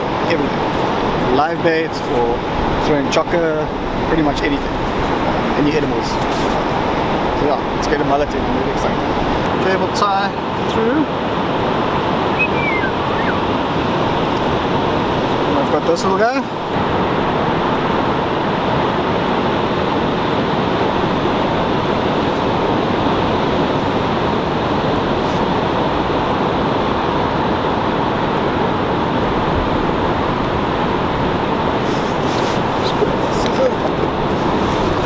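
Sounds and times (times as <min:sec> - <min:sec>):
surf: 0:00.0 - 0:35.0
wind: 0:00.0 - 0:35.0.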